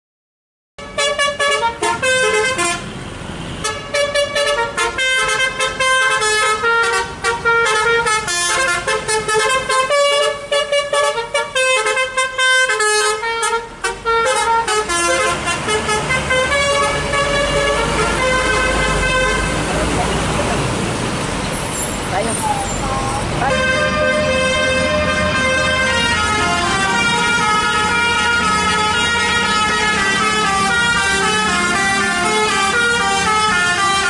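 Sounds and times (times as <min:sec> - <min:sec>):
multi-tone bus horn melody: 0:00.8 - 0:20.0, 0:22.9 - 0:34.0.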